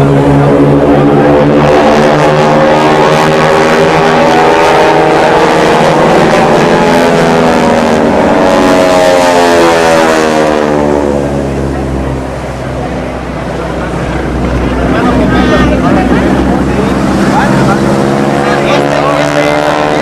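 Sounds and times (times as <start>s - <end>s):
jet engine passing low: 0.0s - 20.0s.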